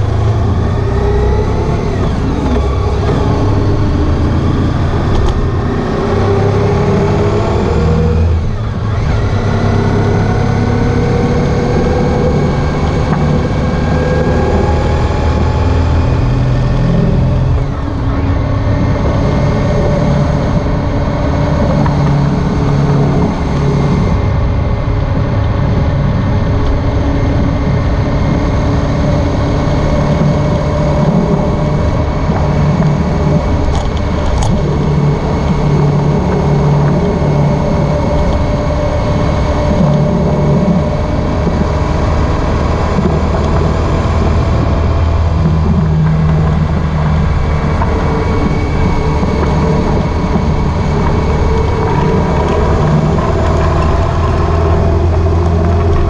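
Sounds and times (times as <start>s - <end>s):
motorcycle engine running: 0.0s - 56.0s
road noise: 0.0s - 56.0s.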